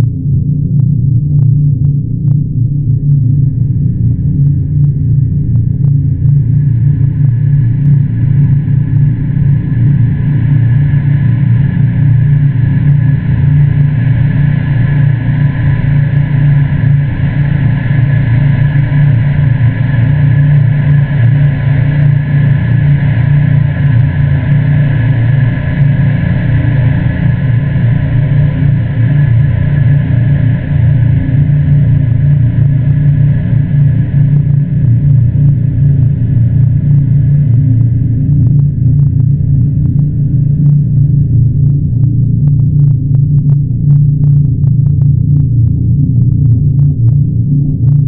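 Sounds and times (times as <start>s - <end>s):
low rumble: 0.0s - 48.0s.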